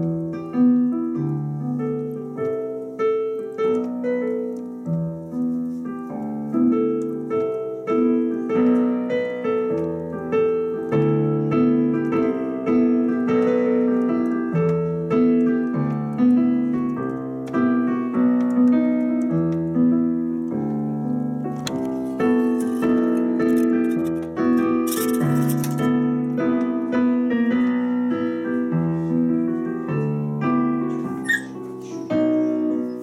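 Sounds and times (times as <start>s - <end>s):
digital piano playing: 0.0s - 33.0s.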